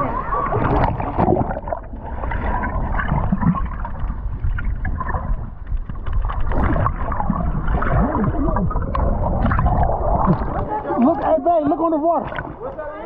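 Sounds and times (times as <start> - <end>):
sea water sloshing and gurgling: 0.0 - 13.0.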